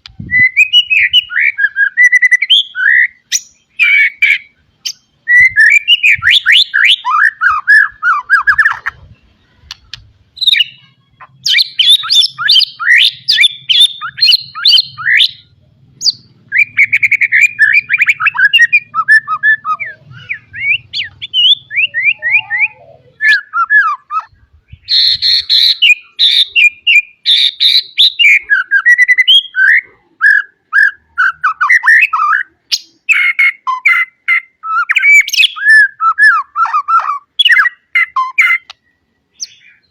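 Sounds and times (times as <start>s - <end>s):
bird singing whistles and chatter: 0.2s - 39.9s.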